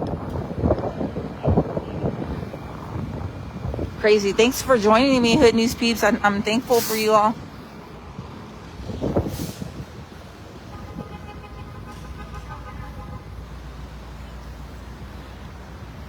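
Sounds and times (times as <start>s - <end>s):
vehicle engines rumbling: 0.0s - 16.0s.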